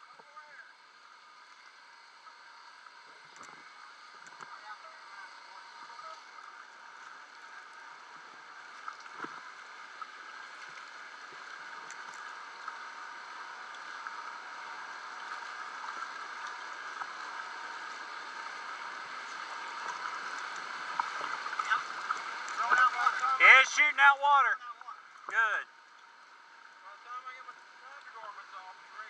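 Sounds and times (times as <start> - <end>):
water rushing and gurgling: 3.1 - 29.0.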